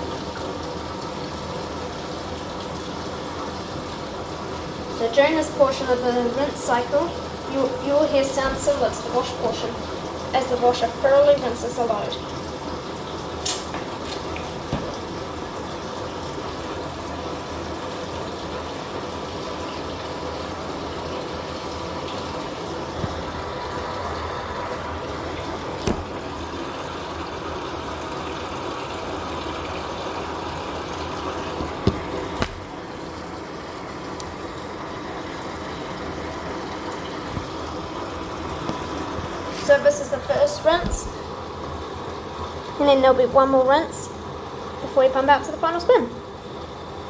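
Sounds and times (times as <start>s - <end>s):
washing machine filling with water: 0.0s - 47.0s.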